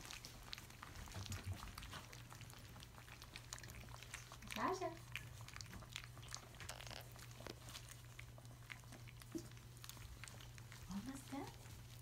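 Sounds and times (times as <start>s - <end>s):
puppies chewing and licking: 0.0s - 12.0s.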